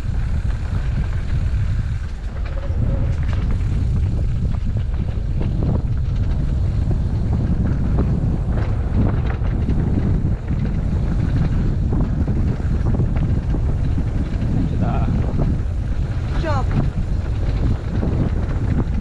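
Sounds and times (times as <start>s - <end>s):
bike clicks and knocks: 0.0s - 19.0s
wind rumbling on microphone: 0.0s - 19.0s.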